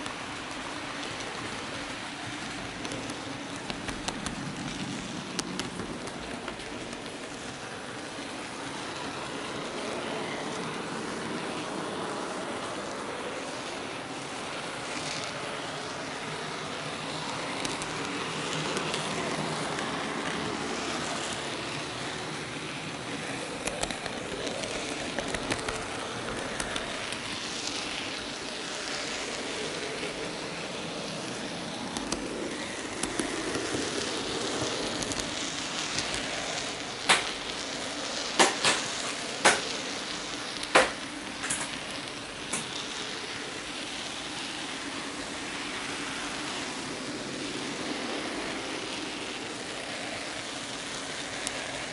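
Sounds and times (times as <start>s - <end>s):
model train wheels rumbling on rails: 0.0s - 51.9s
wheels clicking over rail joints: 0.0s - 51.9s.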